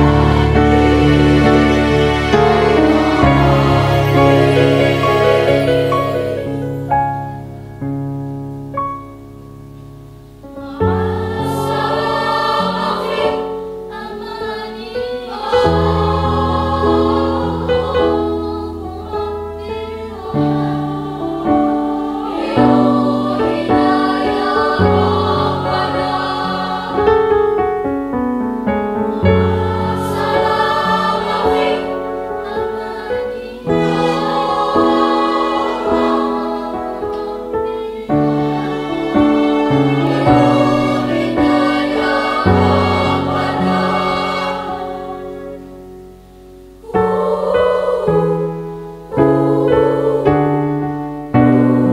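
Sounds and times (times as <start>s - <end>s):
girls choir singing in harmony: 0.0s - 51.9s.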